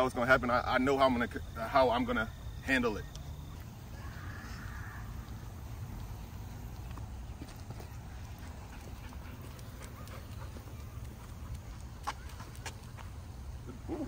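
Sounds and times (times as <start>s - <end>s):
footsteps on paved path: 0.8s - 14.0s.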